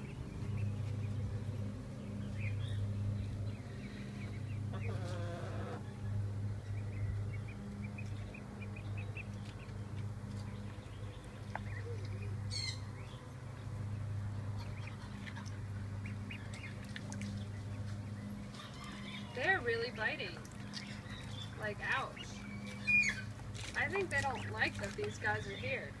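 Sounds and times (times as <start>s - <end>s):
ducklings peeping: 0.0s - 26.0s
steady low hum: 0.0s - 26.0s.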